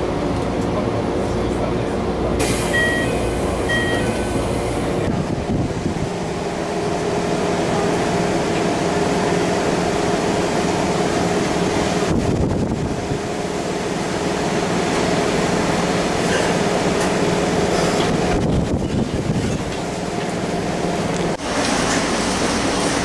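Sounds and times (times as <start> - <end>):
train car equipment hum: 0.0 - 23.0.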